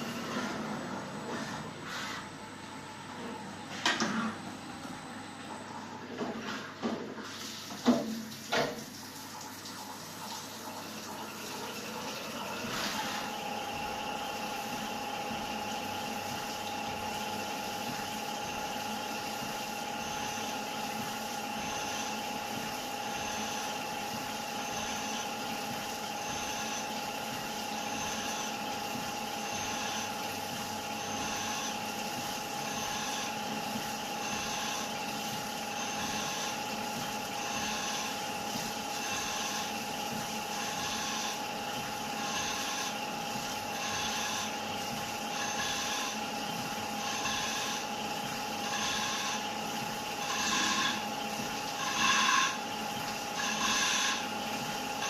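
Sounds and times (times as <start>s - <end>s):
lathe running with high whine: 0.0s - 5.7s, 10.6s - 55.0s.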